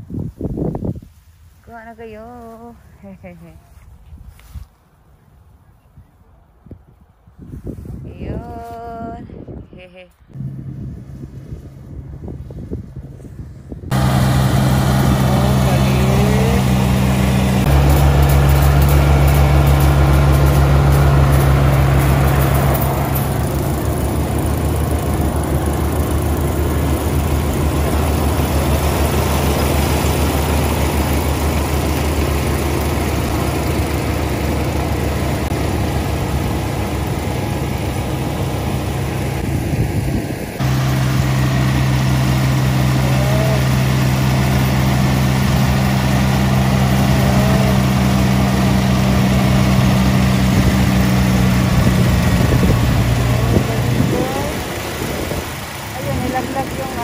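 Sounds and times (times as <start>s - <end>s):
combine harvester humming: 10.3s - 57.0s.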